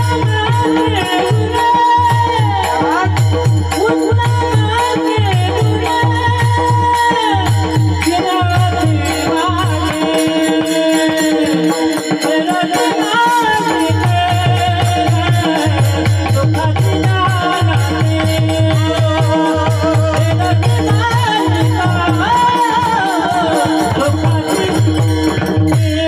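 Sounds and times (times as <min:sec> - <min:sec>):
devotional melody: 0:00.0 - 0:26.0
jingling hand cymbals: 0:00.0 - 0:26.0
steady drum beat: 0:00.0 - 0:26.0.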